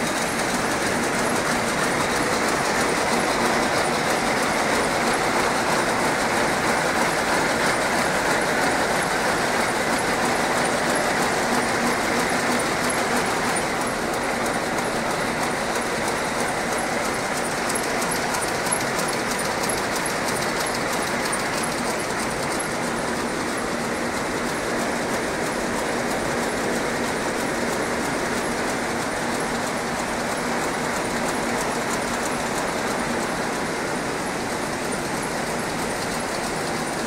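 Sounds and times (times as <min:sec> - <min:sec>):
loom mechanical clatter: 0:00.0 - 0:37.0.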